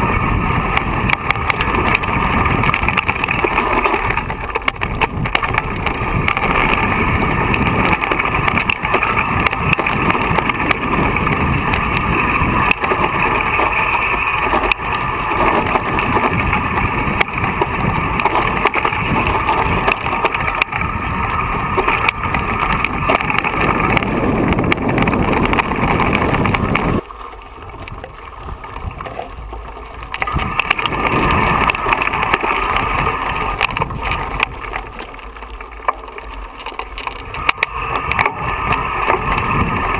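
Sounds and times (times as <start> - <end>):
mountain bike rattling over stones: 0.0 - 39.9.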